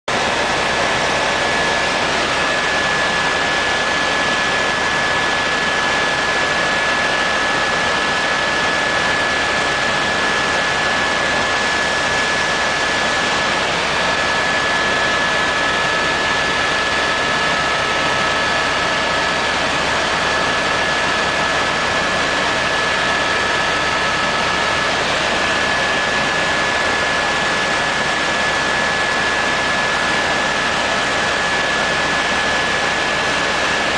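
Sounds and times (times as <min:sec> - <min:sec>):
helicopter engine drone: 0:00.1 - 0:33.9.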